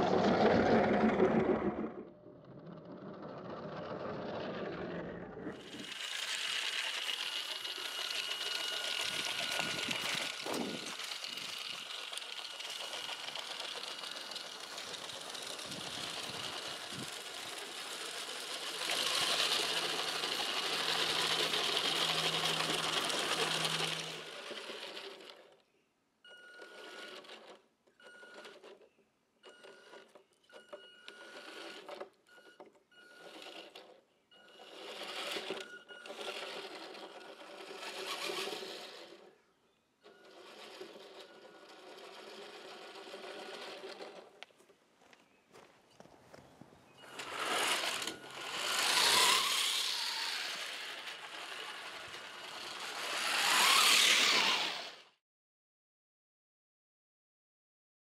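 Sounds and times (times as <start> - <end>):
electric motor and gearbox whining: 0.0 - 25.6, 26.4 - 28.9, 29.5 - 44.5, 46.4 - 55.2.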